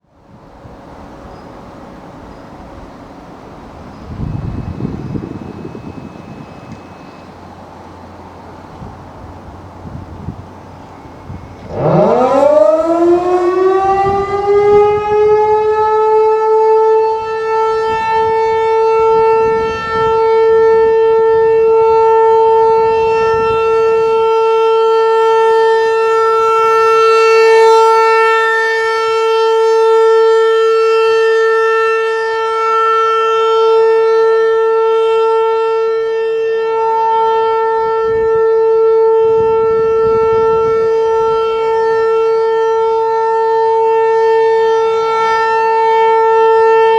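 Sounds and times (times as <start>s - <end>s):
outdoor warning siren: 0.0s - 46.9s.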